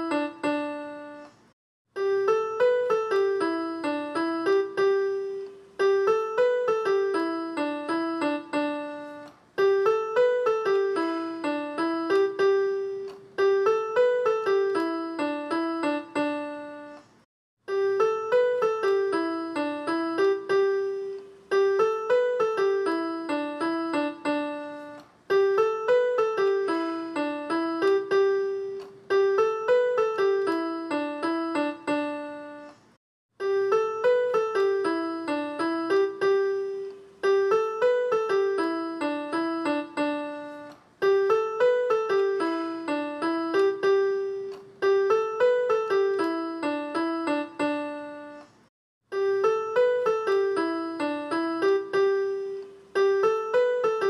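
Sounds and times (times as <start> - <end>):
repeated piano melody: 0.0 - 54.0.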